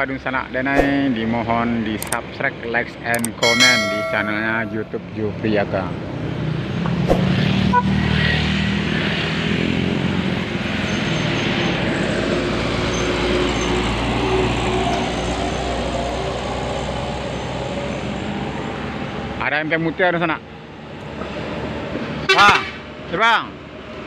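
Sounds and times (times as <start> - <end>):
road and traffic noise: 0.0 - 3.4, 4.8 - 24.0.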